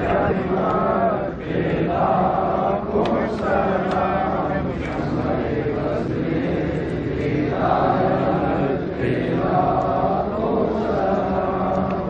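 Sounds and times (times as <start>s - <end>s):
crowd of men chanting: 0.0s - 12.0s.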